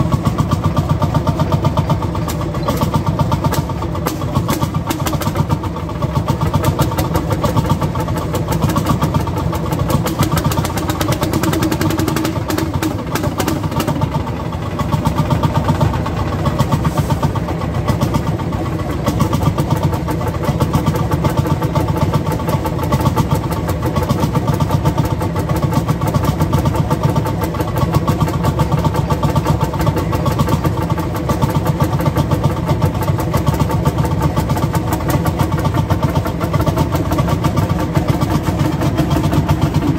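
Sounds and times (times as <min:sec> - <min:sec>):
tractor engine idling thumping: 0:00.0 - 0:39.9.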